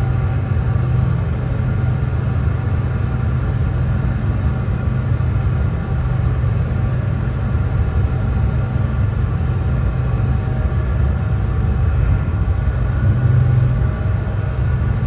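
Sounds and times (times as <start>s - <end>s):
steady brown noise: 0.0s - 15.0s.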